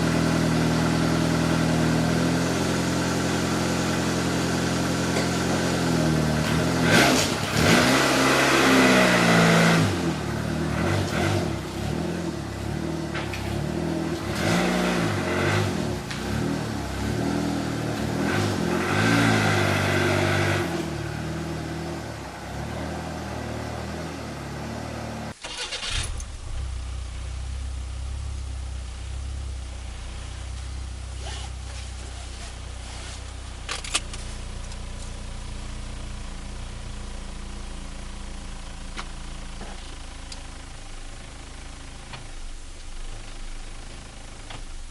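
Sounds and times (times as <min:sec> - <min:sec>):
car engine revving and idling: 0:00.0 - 0:44.9.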